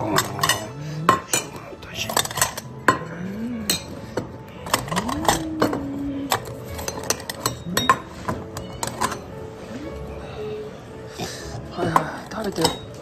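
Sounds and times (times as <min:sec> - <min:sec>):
spoon and dishes clinking: 0:00.0 - 0:09.5, 0:11.5 - 0:13.0.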